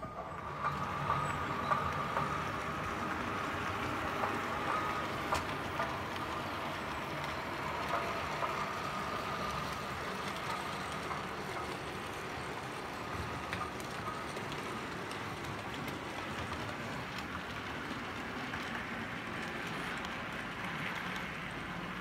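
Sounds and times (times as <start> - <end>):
light rail noise: 0.0 - 22.0
model train hum: 0.0 - 22.0.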